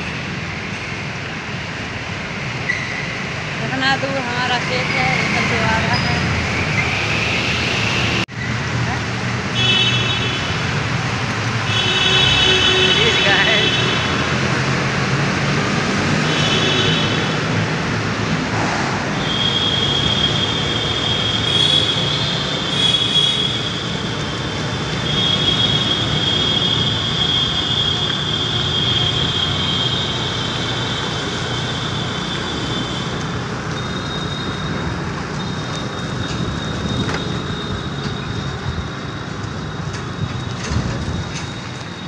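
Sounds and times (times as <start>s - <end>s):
road and wind noise: 0.0s - 42.0s.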